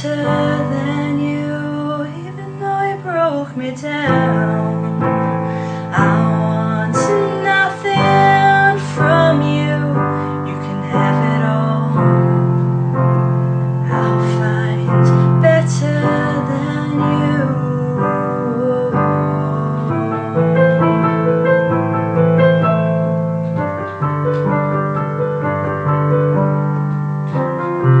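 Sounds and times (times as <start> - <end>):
piano-led pop music: 0.0 - 28.0.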